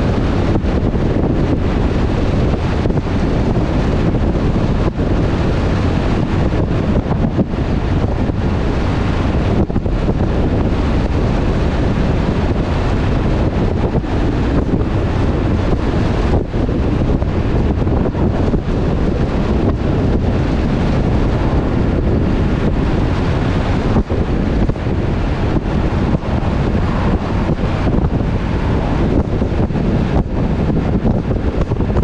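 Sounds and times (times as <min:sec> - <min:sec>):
wind rushing on microphone: 0:00.0 - 0:32.0.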